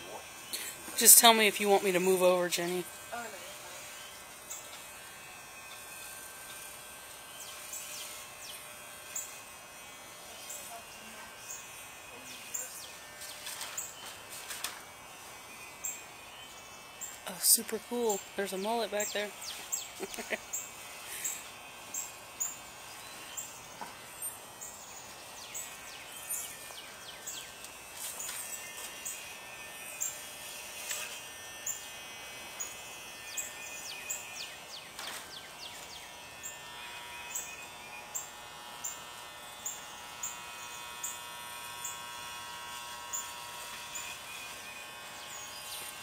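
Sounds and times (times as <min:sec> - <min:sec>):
electric hair clippers buzzing: 0:00.0 - 0:46.0.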